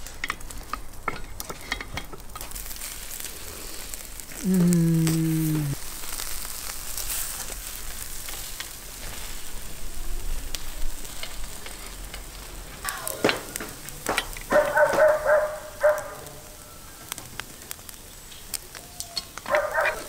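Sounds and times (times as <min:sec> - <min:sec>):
meat sizzling over charcoal: 0:00.0 - 0:20.0.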